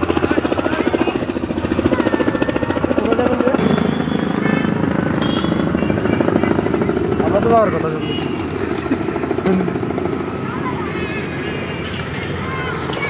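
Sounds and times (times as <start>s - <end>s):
turbine running: 0.0s - 12.4s
helicopter rotor beating: 0.0s - 13.0s.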